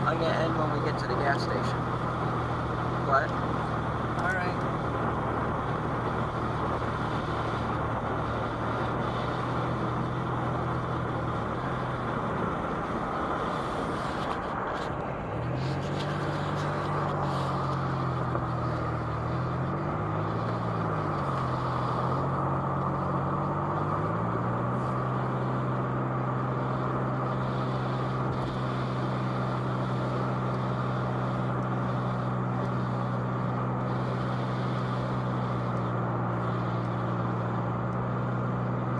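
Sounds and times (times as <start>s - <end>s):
car engine hum inside cabin: 0.0s - 38.9s.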